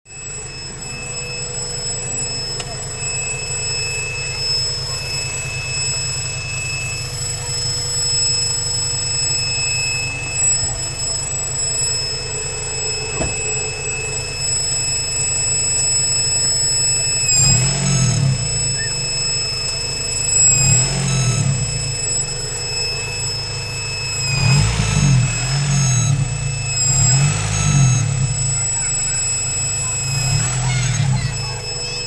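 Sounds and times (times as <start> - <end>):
car engine idling: 0.0 - 32.0
high-pitched whine: 0.1 - 32.0.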